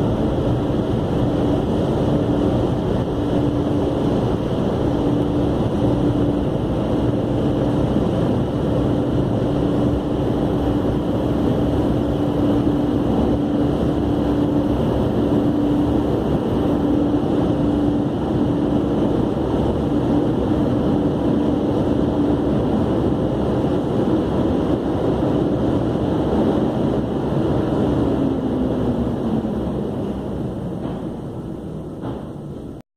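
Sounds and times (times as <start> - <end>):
car wash machinery rushing: 0.0 - 32.8.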